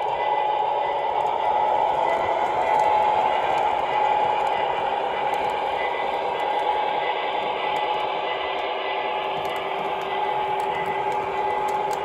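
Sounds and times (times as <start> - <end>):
model train mechanical hum: 0.0 - 12.0.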